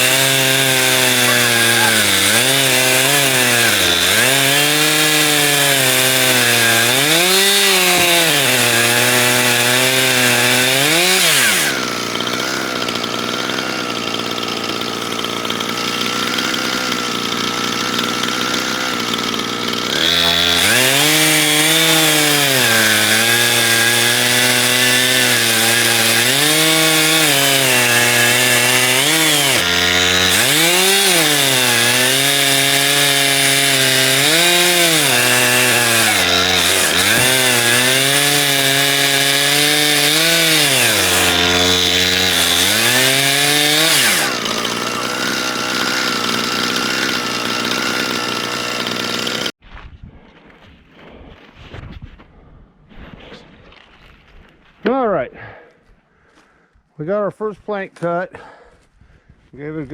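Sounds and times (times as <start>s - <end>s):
chainsaw cutting log: 0.0s - 49.6s.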